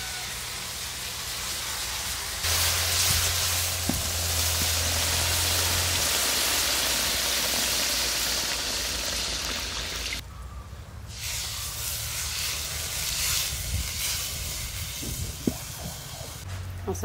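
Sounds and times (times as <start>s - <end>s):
food sizzling in hot oil: 0.0s - 10.2s, 11.1s - 15.4s.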